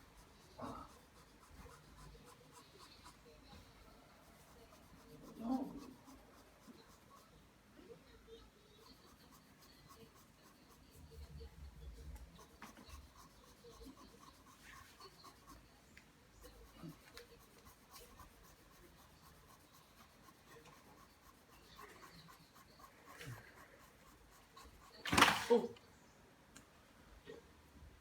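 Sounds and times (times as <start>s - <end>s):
pencil scratching on paper: 0.0s - 25.2s.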